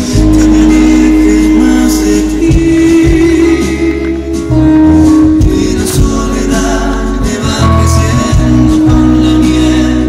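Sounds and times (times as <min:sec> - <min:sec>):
live band playing: 0:00.0 - 0:10.0.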